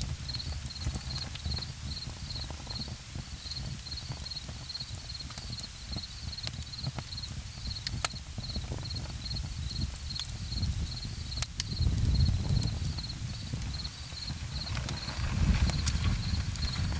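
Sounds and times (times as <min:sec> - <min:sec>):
campfire crackling and popping: 0:00.0 - 0:16.9
cricket chirping: 0:00.3 - 0:16.9.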